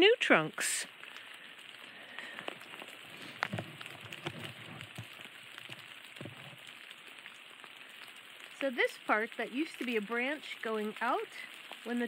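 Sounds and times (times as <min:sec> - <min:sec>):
light rain falling: 0:00.0 - 0:12.0
raindrops ticking on leaves: 0:00.0 - 0:12.0.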